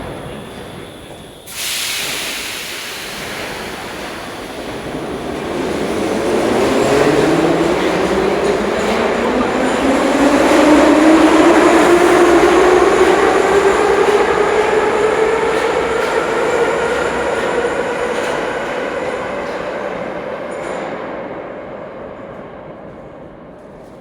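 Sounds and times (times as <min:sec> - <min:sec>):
train running gear rumble and rattle: 0:00.0 - 0:21.3.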